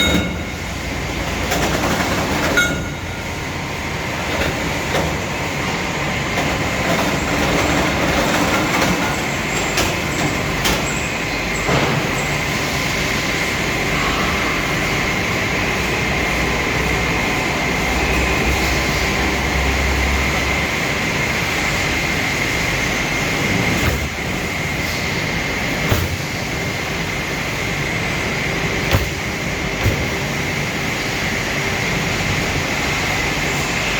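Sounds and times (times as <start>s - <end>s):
machine running with high whine: 0.0s - 33.9s.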